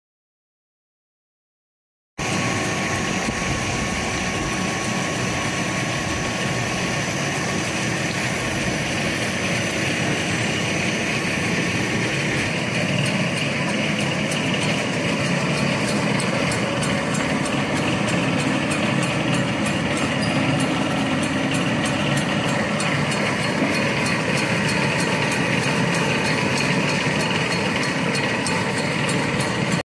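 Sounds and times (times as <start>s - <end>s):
machinery whirring and humming: 2.2s - 29.8s.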